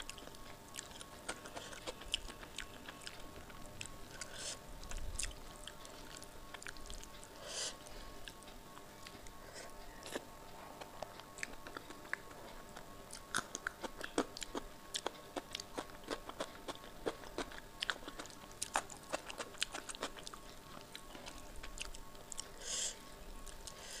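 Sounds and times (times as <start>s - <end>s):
close-up wet chewing: 0.0s - 24.0s.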